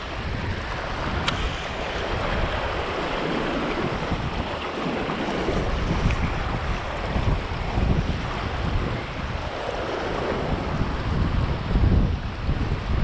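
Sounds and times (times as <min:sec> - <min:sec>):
choppy river water: 0:00.0 - 0:13.0
wind buffeting microphone: 0:00.0 - 0:13.0.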